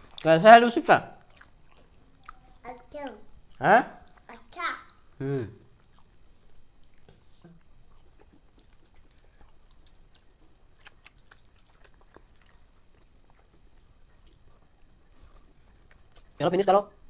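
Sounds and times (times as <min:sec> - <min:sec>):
faint chewing with small clicks: 0:00.0 - 0:00.5, 0:01.1 - 0:17.0.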